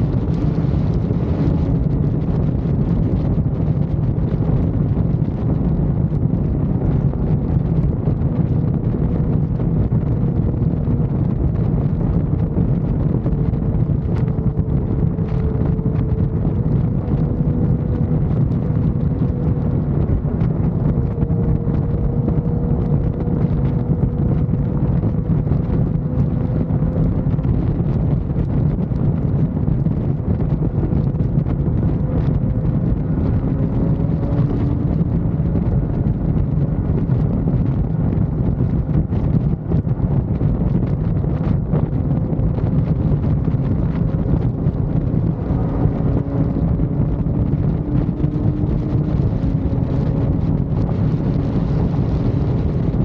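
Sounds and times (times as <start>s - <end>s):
motorcycle engine drone: 0.0s - 53.0s
wind rushing over microphone: 0.0s - 53.0s.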